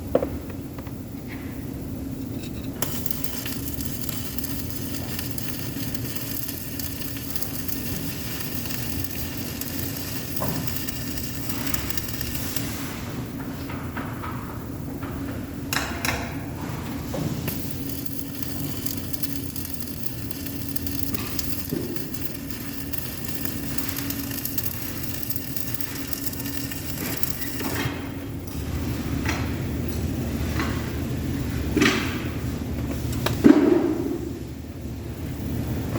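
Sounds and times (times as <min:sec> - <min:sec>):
arc welding crackling hiss: 0:01.8 - 0:35.9.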